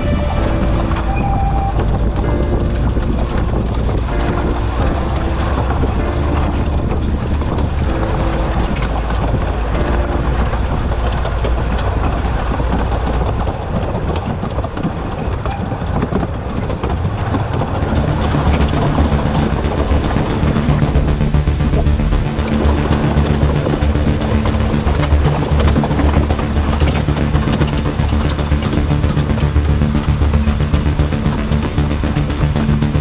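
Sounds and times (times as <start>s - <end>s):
train rumbling along track: 0.0s - 33.0s
wheels clattering on rails: 0.0s - 33.0s.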